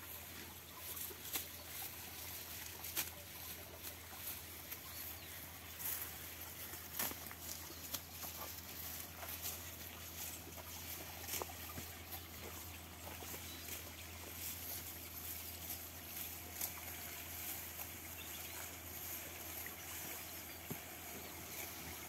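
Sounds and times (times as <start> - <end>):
cattle tearing and chewing grass: 0.0 - 22.0
steady low rumble: 0.0 - 22.0.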